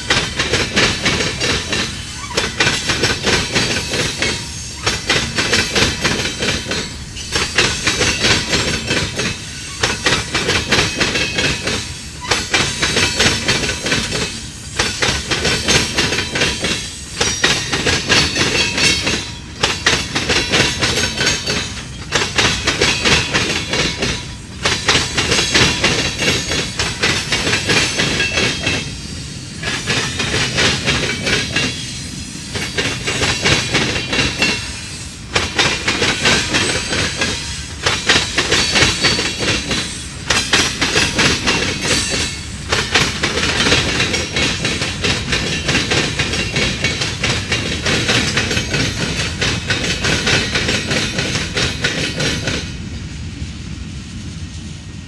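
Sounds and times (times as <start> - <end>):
train wheels clattering over crossing: 0.0 - 53.2.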